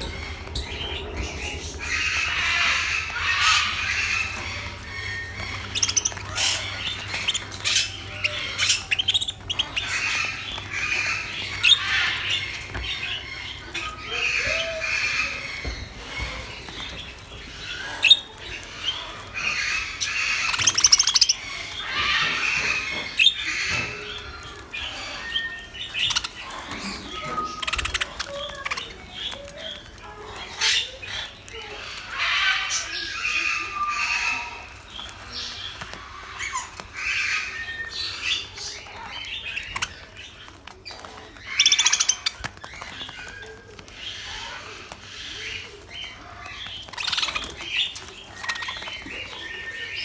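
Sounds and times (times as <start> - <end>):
budgerigars chattering: 0.0 - 50.0.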